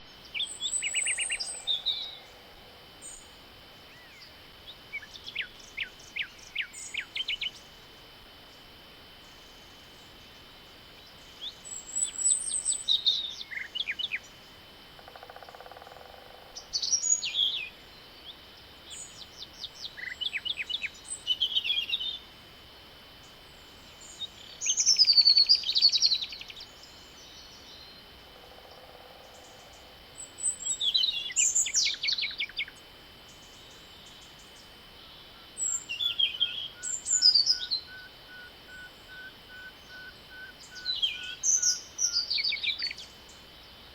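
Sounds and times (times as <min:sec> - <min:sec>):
songbirds singing: 0:00.0 - 0:07.8, 0:08.4 - 0:15.9, 0:16.5 - 0:22.4, 0:23.2 - 0:43.9.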